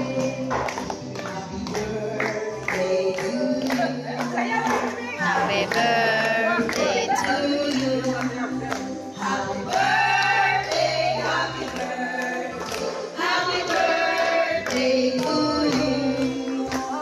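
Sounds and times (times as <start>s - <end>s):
voices singing: 1.2s - 17.0s.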